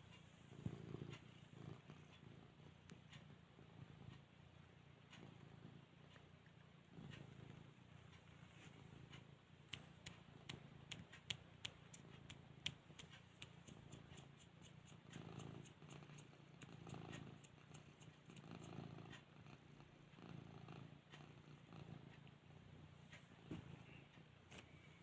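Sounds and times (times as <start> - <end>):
faint fast ticks: 0.0 - 24.8
cat purring: 0.0 - 25.0.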